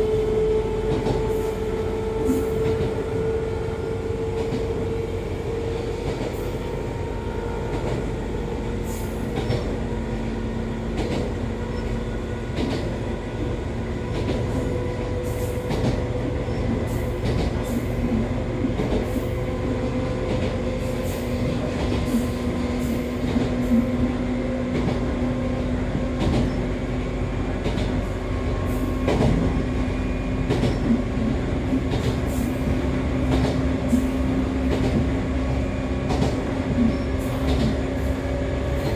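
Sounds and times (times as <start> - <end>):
rail-joint clicks: 0.8 - 7.0, 7.6 - 35.2, 36.0 - 38.9.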